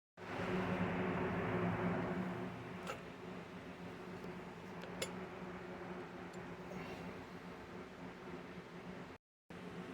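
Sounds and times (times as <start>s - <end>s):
furnace humming: 0.2s - 9.9s.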